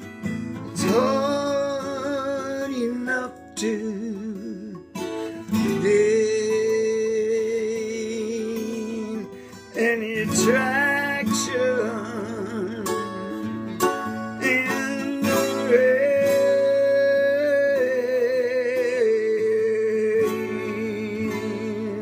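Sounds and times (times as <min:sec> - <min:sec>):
acoustic guitar strumming: 0:00.0 - 0:22.0
man singing with vibrato: 0:00.0 - 0:22.0.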